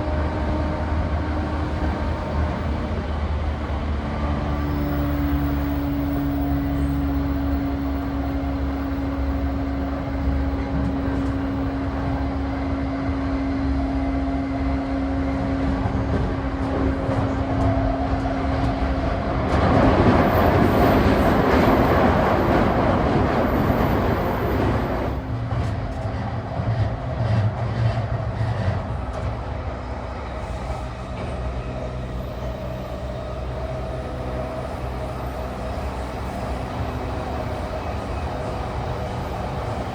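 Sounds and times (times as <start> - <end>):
train running noise: 0.0 - 39.9.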